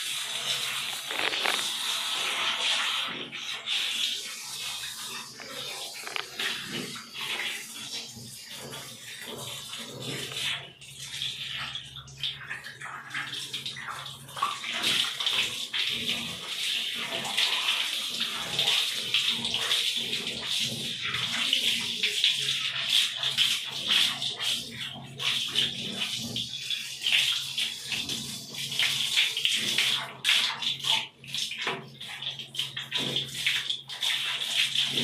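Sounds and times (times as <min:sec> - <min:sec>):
shower water splashing: 0:00.0 - 0:35.0.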